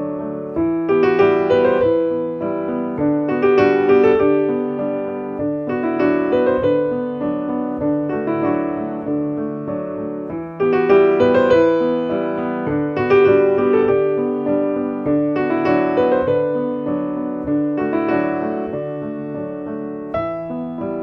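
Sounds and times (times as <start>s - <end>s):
slow gentle piano piece: 0.0s - 21.0s.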